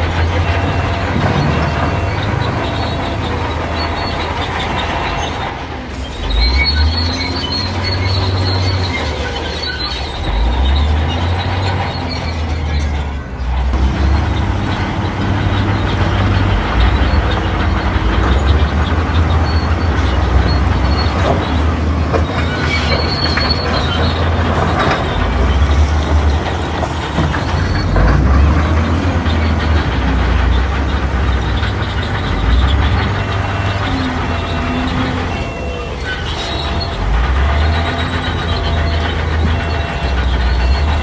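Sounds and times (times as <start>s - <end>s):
bulldozer diesel engine under load: 0.0s - 41.0s
high metallic squeal: 0.0s - 41.0s
steel tracks clattering: 0.0s - 41.0s.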